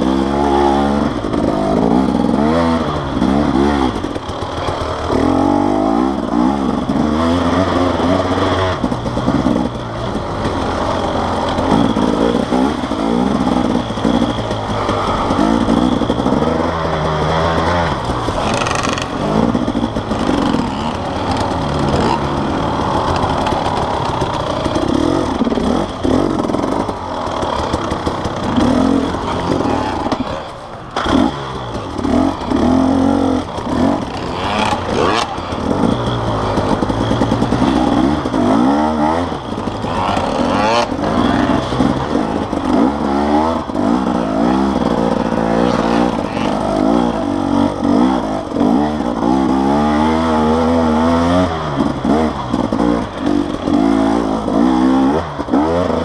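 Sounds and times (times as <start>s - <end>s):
motorcycle engine revving: 0.0s - 56.0s
motorcycle knocks and rattles: 0.0s - 56.0s.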